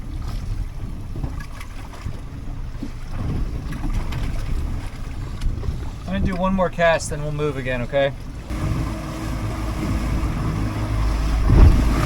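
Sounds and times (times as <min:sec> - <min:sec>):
water sloshing against boat: 0:00.0 - 0:12.0
wind buffeting microphone: 0:00.0 - 0:12.0.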